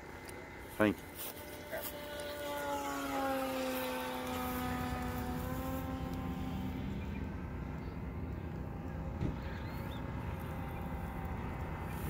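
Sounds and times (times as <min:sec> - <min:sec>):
model plane electric motor whine: 0:00.0 - 0:12.0.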